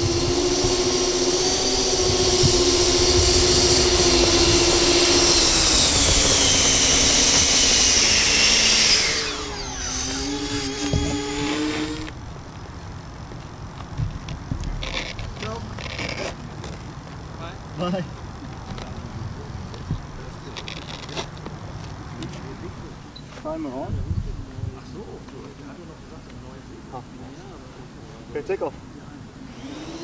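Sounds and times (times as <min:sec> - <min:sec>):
electric ducted fans whining: 0:00.0 - 0:30.0.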